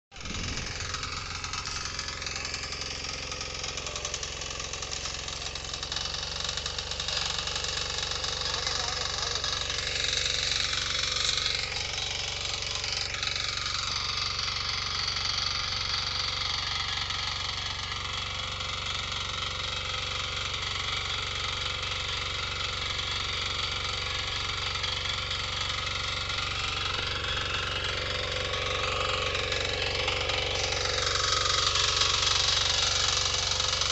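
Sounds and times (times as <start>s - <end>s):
power tiller engine running: 0.1s - 33.9s.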